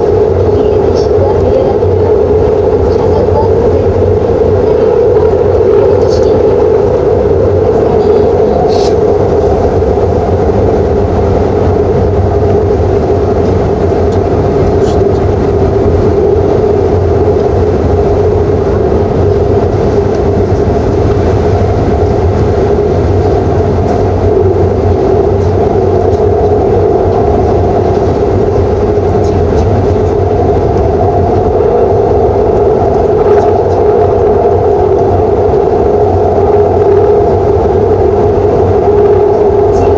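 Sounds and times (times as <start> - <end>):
constant droning hum: 0.0 - 39.9
train wheels rumbling on rail: 0.0 - 39.9.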